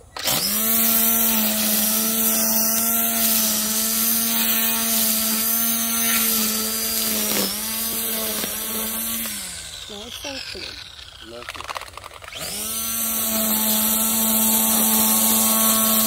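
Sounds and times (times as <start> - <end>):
string trimmer motor hum: 0.0 - 16.0.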